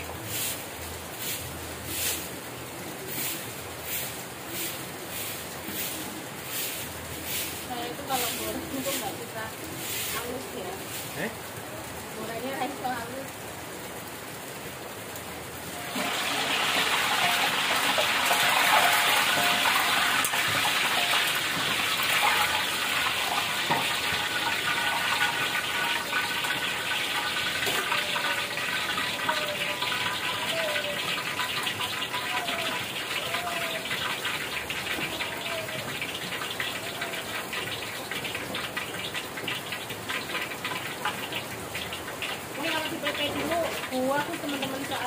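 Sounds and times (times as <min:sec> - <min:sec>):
crackers sizzling in hot oil: 0:00.0 - 0:45.0.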